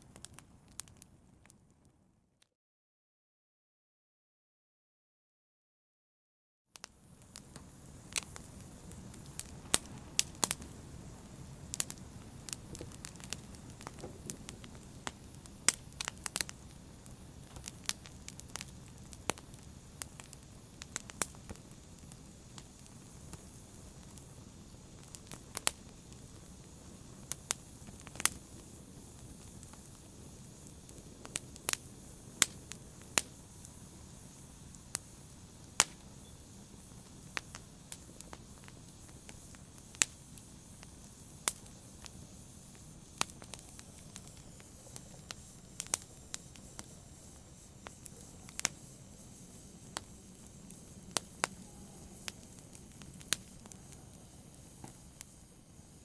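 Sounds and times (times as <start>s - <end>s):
fire crackles and pops: 0.0s - 2.1s, 6.7s - 56.0s
fire hissing and rumbling: 0.0s - 2.1s, 6.8s - 56.0s.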